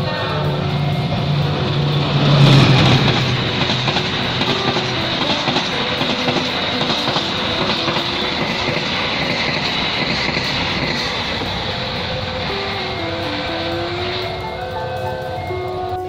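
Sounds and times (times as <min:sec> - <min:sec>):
locomotive engine: 0:00.0 - 0:16.0
wheels rushing on rail: 0:00.0 - 0:16.0.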